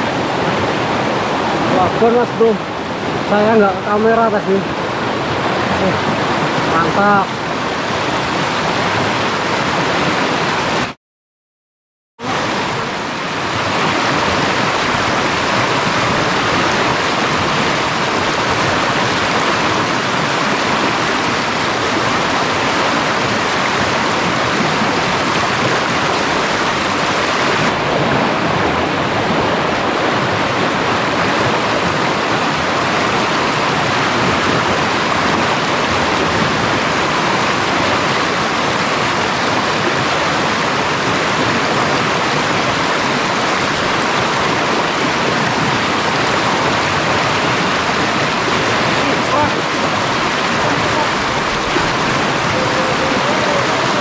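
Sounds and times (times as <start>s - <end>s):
river water rushing: 0.0s - 11.0s, 12.2s - 54.0s.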